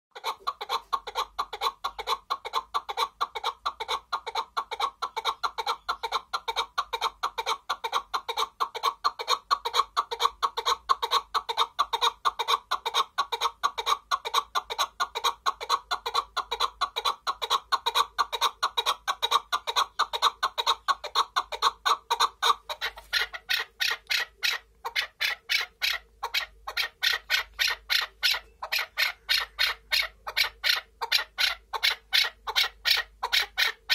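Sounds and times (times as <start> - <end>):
partridge clucking calls: 0.2 - 33.9.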